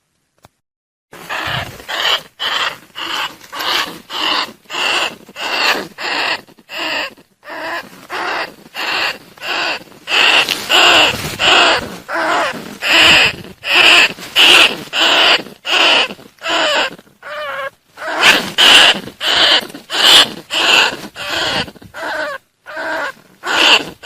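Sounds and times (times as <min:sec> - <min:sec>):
rat calls short harsh squeals: 0:01.2 - 0:24.0.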